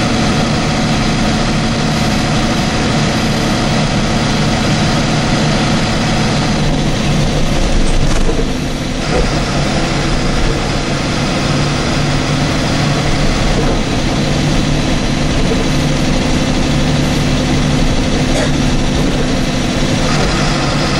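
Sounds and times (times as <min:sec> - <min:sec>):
bus engine drone: 0:00.0 - 0:20.9.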